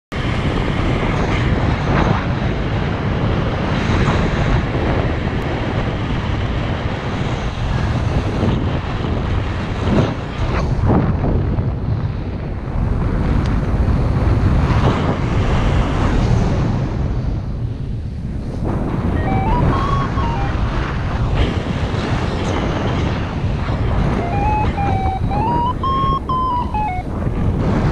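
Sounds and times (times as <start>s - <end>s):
wind buffeting microphone: 0.2s - 27.9s.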